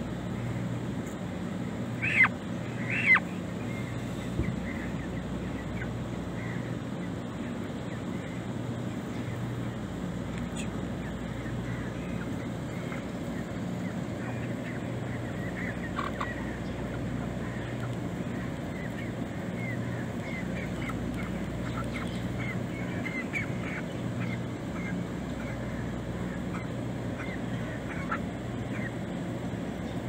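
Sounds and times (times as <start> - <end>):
birds calling: 0.0 - 30.0
steady low hum: 0.0 - 30.0.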